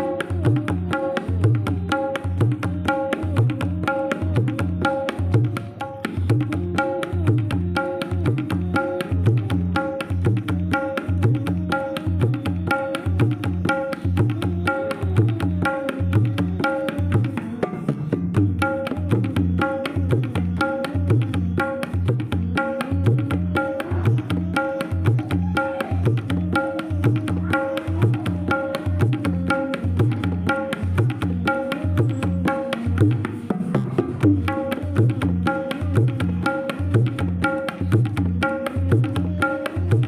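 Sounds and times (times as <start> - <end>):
instrumental music with drum beat: 0.0 - 40.0.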